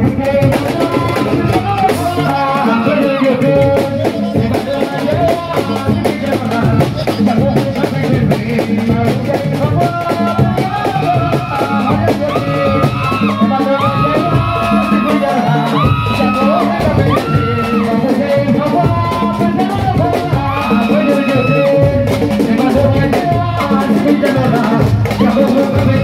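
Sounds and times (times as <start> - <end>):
upbeat music with fast drumming: 0.0 - 26.0.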